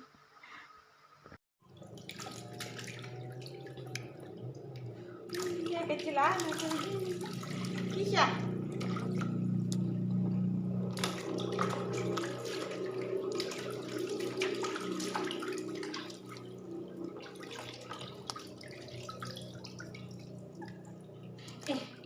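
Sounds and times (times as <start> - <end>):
low hum: 1.6 - 22.0
water running and splashing: 1.6 - 22.0.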